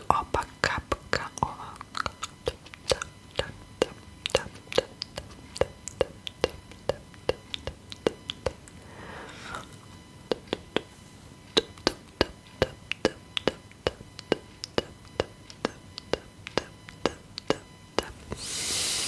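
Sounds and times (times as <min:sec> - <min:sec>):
gum chewing mouth clicks: 0:00.0 - 0:08.8, 0:09.6 - 0:10.9, 0:11.5 - 0:18.4.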